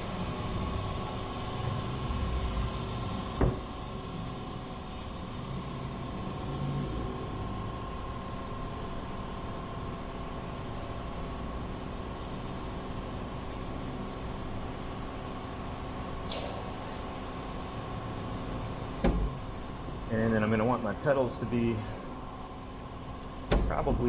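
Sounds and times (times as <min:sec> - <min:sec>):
workshop background hum: 0:00.0 - 0:24.0.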